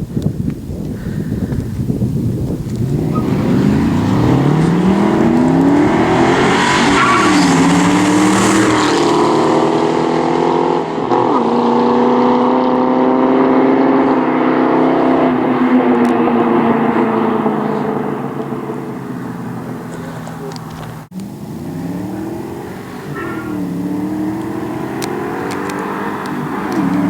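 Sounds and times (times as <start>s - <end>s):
car engine accelerating: 2.5s - 27.0s.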